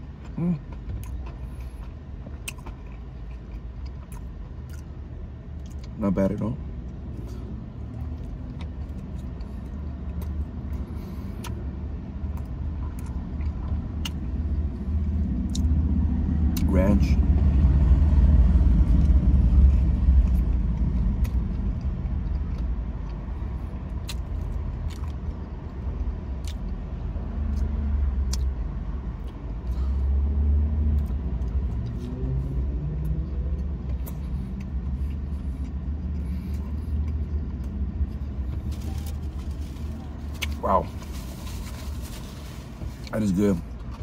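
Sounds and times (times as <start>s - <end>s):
chewing and mouth sounds: 0.0s - 6.0s, 6.8s - 15.9s, 18.7s - 30.0s, 30.8s - 44.0s
low vehicle rumble: 0.0s - 44.0s.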